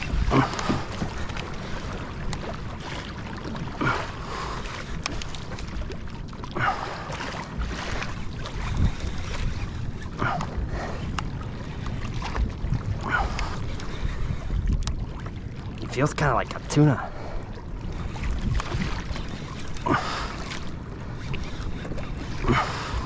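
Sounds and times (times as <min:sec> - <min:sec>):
water splashing against hull: 0:00.0 - 0:23.0
wind rumbling on microphone: 0:00.0 - 0:23.0.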